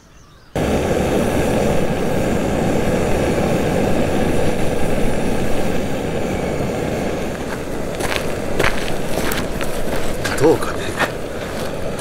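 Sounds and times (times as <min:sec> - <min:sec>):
gas burner flame rushing: 0:00.6 - 0:12.0.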